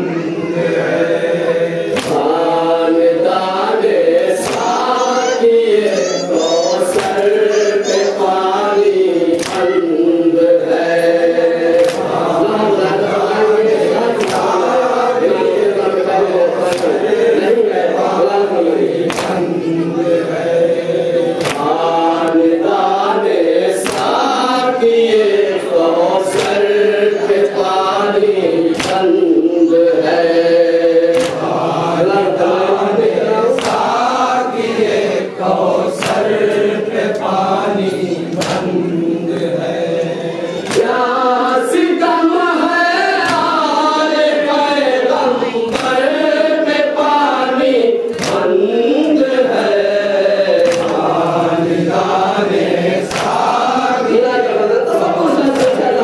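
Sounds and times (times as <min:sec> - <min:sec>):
men chanting a lament in chorus: 0:00.0 - 0:56.0.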